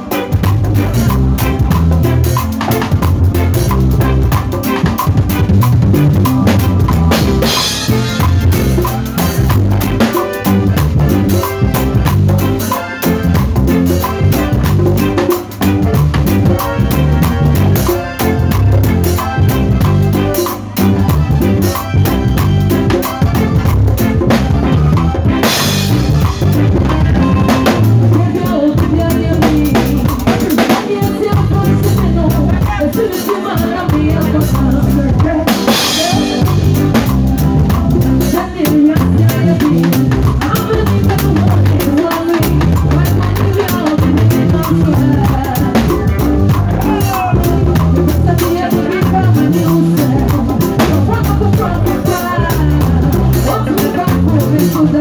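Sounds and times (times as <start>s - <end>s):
drum kit groove: 0.0s - 55.0s
live band music: 0.0s - 55.0s.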